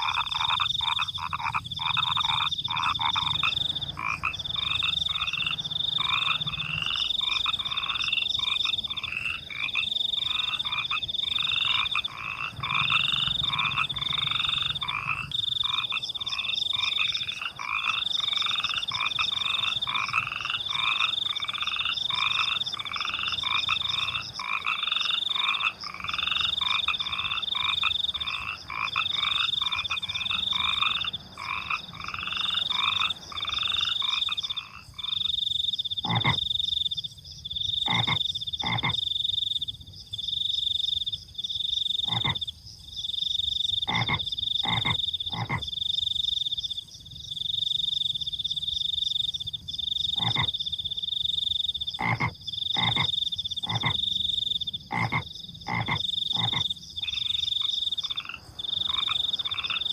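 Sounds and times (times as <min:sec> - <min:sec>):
crickets trilling: 0:00.0 - 0:59.9
frogs croaking in chorus: 0:00.0 - 0:59.9.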